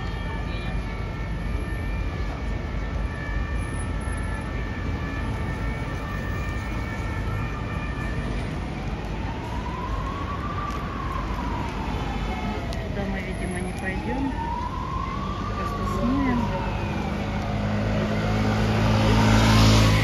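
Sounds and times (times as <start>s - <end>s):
city traffic rumble: 0.0s - 20.0s
emergency vehicle siren wailing: 0.0s - 20.0s.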